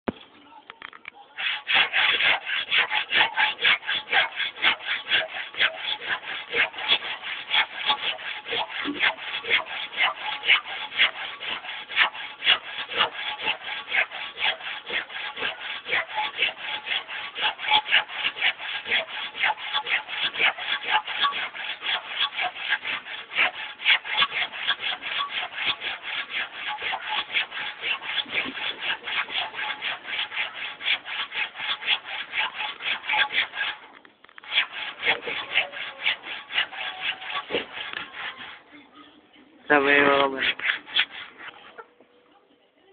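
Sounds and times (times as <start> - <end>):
hand saw cutting wood: 1.3 - 38.7, 39.7 - 41.8.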